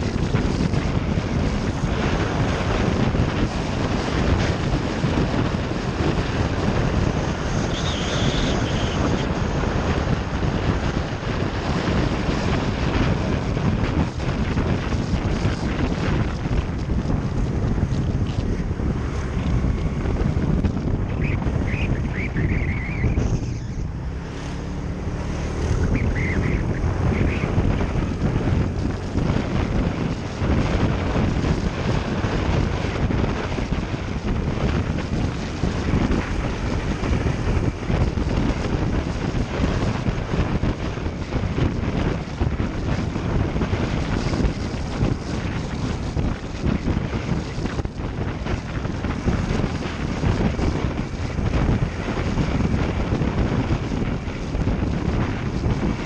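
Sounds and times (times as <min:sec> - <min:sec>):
motorcycle engine: 0:00.0 - 0:56.0
road noise: 0:00.0 - 0:56.0
wind buffeting microphone: 0:00.0 - 0:56.0.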